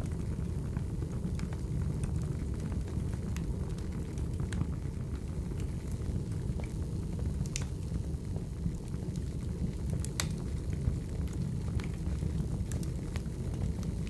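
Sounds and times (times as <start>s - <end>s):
wood crackling and popping: 0.0s - 14.0s.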